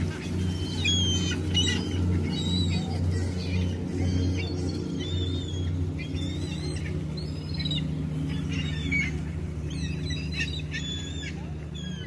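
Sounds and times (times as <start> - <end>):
gulls squawking: 0.0 - 12.0
low hum: 0.0 - 12.0.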